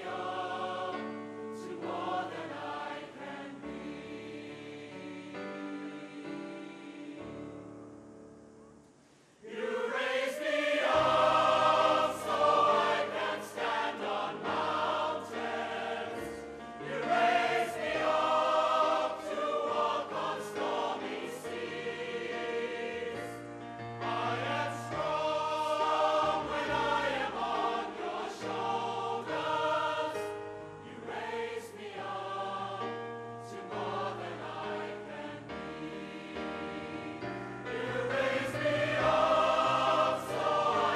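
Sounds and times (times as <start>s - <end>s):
choir singing with instruments: 0.0s - 40.9s.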